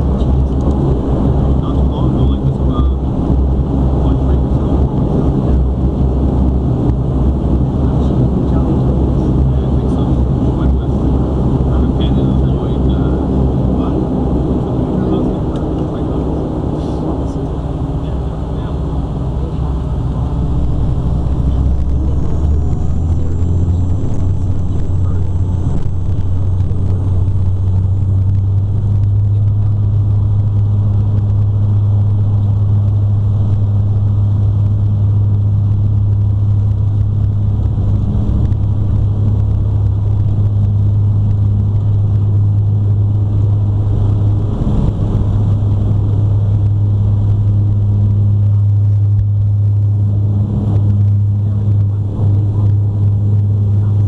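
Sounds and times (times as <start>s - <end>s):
airliner engines drone: 0.0s - 54.0s
high engine whine: 0.0s - 54.0s.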